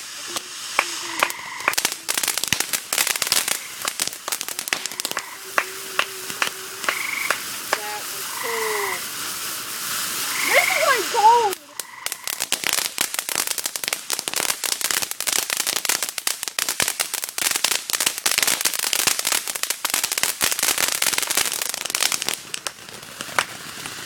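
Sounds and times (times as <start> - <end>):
firework crackling and popping: 0.0 - 24.0.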